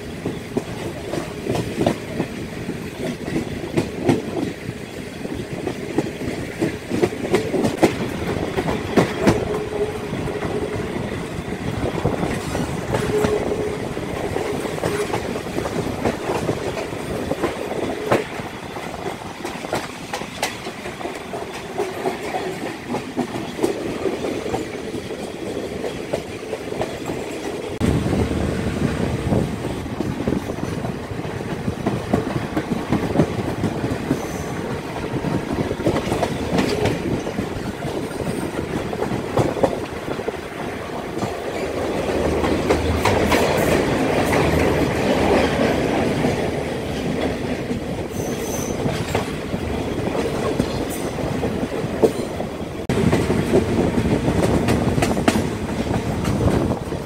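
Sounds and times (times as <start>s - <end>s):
train rumble: 0.0s - 57.0s
train wheels clicking over rail joints: 0.0s - 57.0s.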